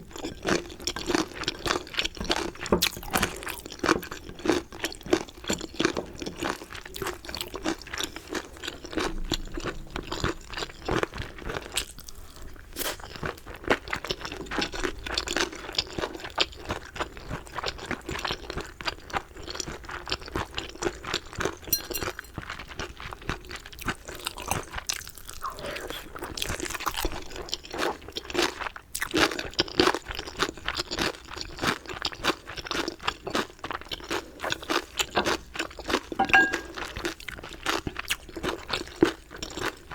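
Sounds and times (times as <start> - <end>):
chewing crispy fried chicken: 0.0 - 36.2, 37.1 - 39.9.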